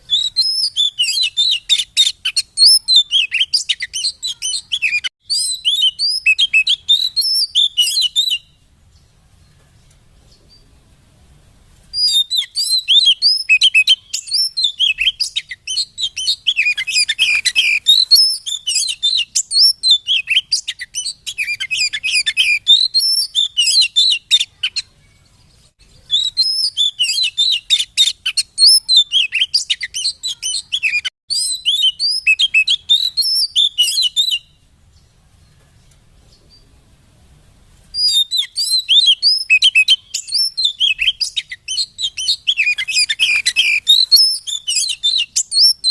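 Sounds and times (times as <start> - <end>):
bird singing: 0.0 - 10.8, 12.0 - 36.8, 38.0 - 45.9.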